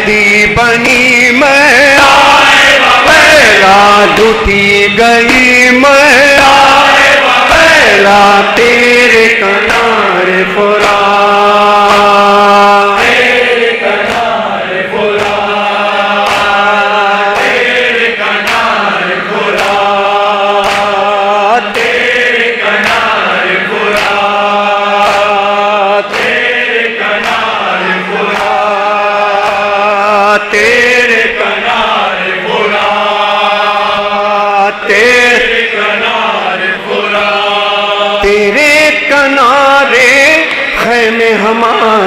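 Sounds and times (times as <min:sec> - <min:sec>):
men chanting a lament: 0:00.0 - 0:42.0
rhythmic chest-beating: 0:00.0 - 0:42.0.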